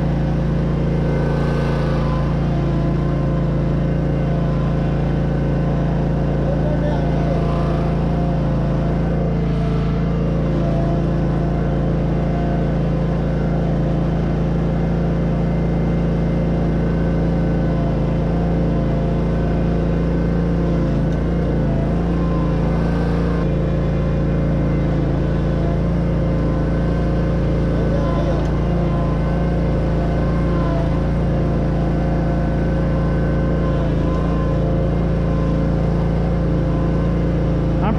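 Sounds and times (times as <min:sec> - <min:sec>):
riding mower engine running: 0:00.0 - 0:37.9.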